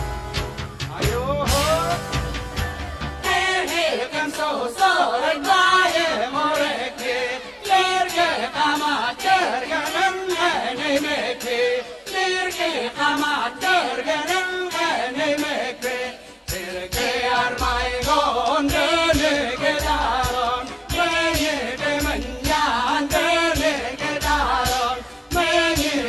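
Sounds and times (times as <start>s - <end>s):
singing over a steady beat: 0.9s - 2.2s, 3.2s - 26.0s.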